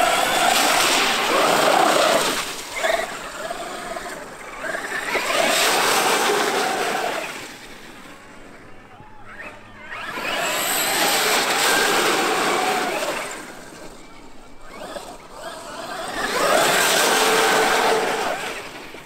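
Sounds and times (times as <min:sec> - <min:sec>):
electric motor whining: 0:00.0 - 0:07.6, 0:09.2 - 0:18.8.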